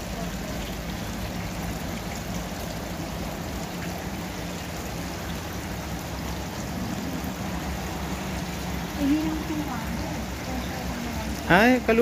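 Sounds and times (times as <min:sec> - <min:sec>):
fountain water trickling and splashing: 0:00.0 - 0:12.0.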